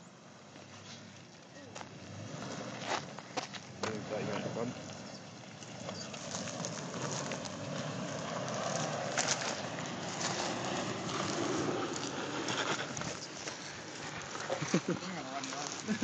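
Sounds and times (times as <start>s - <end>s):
engine running low: 0.0s - 16.0s
tyres crunching over gravel: 0.0s - 16.0s.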